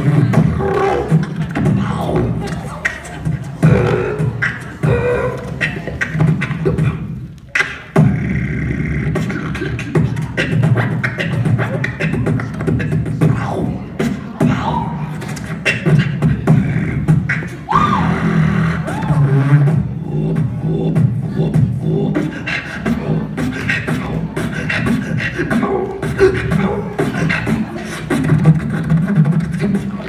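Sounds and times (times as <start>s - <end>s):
person beatboxing: 0.0s - 30.0s.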